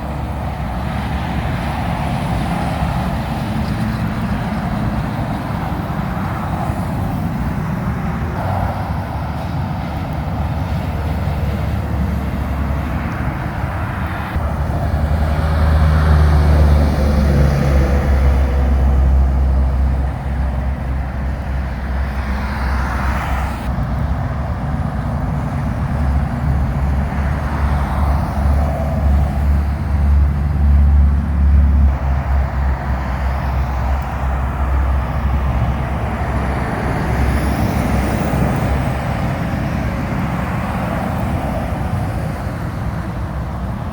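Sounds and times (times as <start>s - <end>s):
tyres hissing on wet road: 0.0s - 23.7s, 24.3s - 43.9s
truck engine drone: 0.0s - 43.9s.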